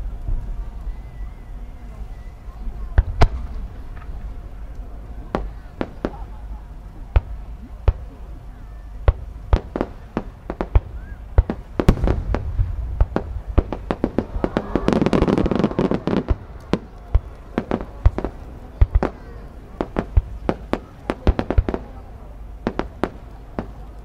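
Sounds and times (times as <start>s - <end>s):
fireworks crackling: 0.0s - 24.0s
fireworks bursting with bangs: 2.8s - 24.0s.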